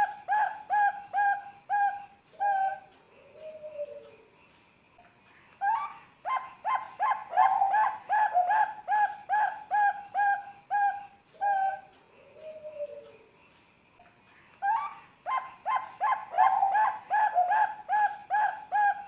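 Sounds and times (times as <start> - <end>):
dove cooing in clipped notes: 0.0 - 4.2, 6.3 - 13.2, 14.8 - 19.0.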